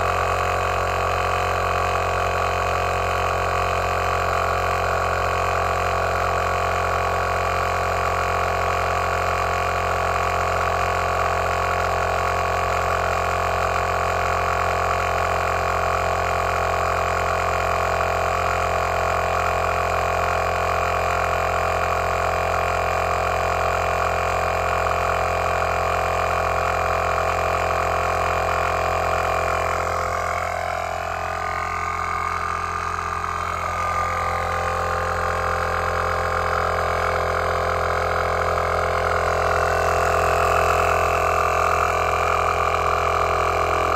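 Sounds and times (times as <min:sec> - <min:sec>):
air compressor running: 0:00.0 - 0:43.9.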